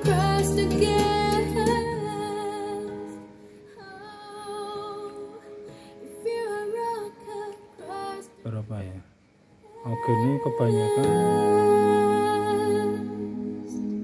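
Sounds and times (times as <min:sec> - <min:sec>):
woman singing with accompaniment: 0:00.0 - 0:08.5, 0:09.6 - 0:14.0.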